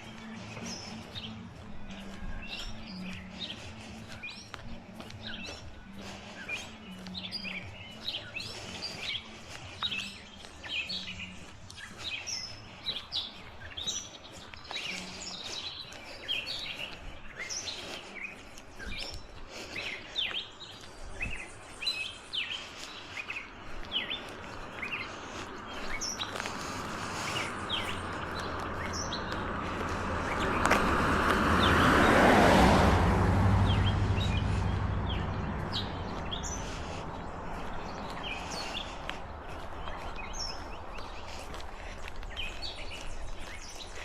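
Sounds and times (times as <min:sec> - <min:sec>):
car tyre noise on road: 0:00.0 - 0:44.0
songbirds chirping and singing: 0:00.0 - 0:44.0.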